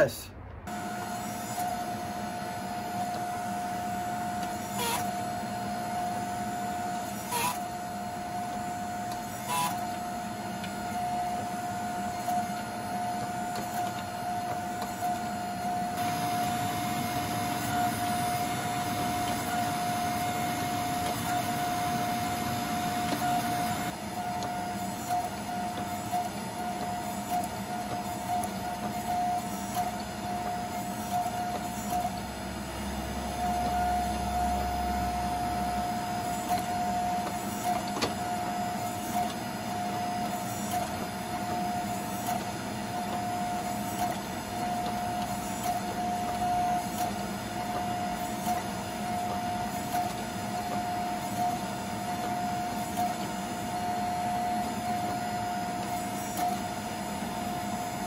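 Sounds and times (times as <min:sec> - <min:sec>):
hydraulic press motor running: 0:00.5 - 0:58.0.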